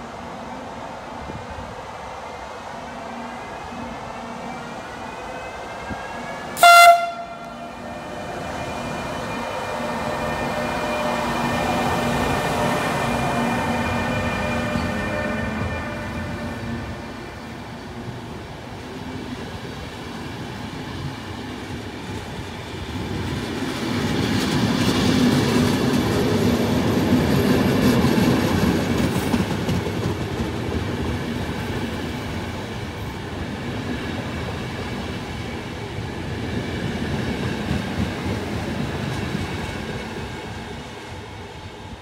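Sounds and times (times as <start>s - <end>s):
train coaches rolling past: 0.0s - 42.0s.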